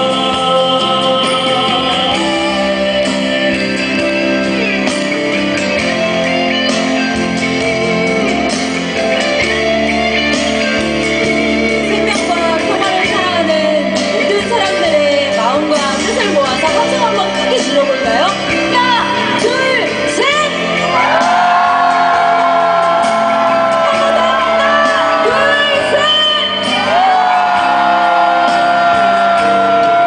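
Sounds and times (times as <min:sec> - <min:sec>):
live band playing with singing: 0:00.0 - 0:30.0.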